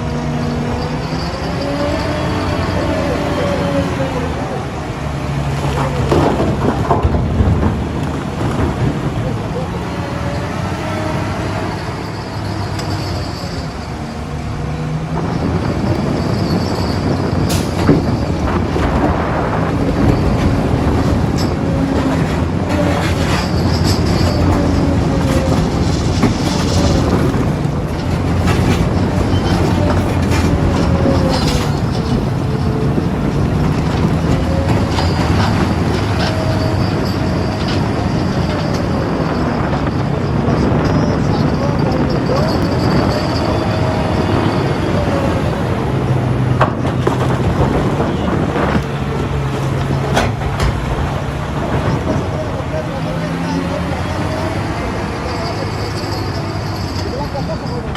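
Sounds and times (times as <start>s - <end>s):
diesel engine under load: 0.0s - 57.9s
hydraulic whine: 0.0s - 57.9s.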